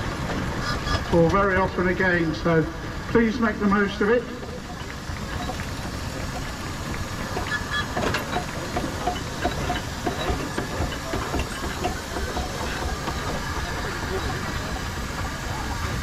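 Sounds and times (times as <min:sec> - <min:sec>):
steam hissing: 0:00.0 - 0:16.0.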